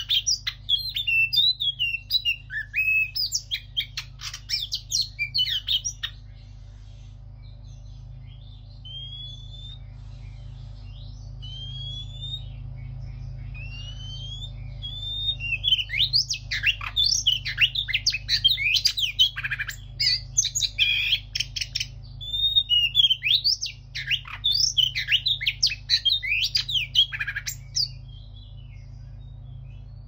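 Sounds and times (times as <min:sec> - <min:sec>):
bird singing whistled notes: 0:00.0 - 0:06.2, 0:07.4 - 0:30.0.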